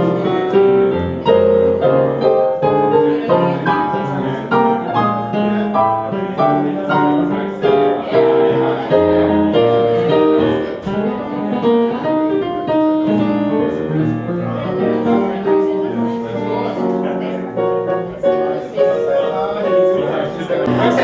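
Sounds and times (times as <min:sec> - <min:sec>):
digital piano playing: 0:00.0 - 0:21.0.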